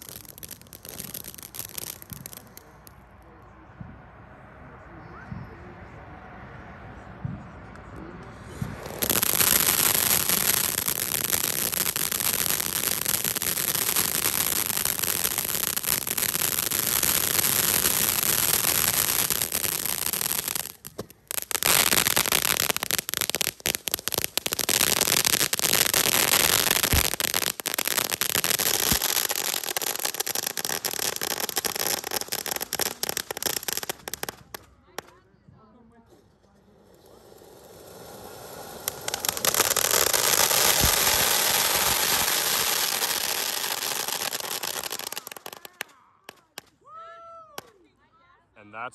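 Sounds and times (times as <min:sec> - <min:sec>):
firework fountain hissing: 0:00.0 - 0:03.0, 0:08.3 - 0:35.1, 0:36.8 - 0:46.7
firework crackling: 0:00.0 - 0:03.1, 0:07.7 - 0:35.2, 0:36.2 - 0:46.8.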